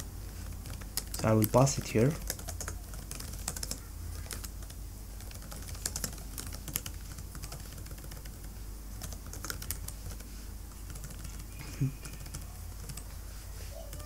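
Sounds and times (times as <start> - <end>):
computer keyboard typing: 0.0 - 13.1.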